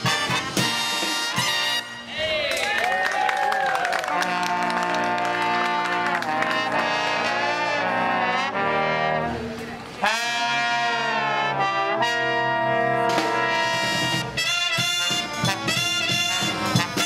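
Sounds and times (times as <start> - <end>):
marching brass band playing: 0.0 - 2.2, 3.9 - 17.0.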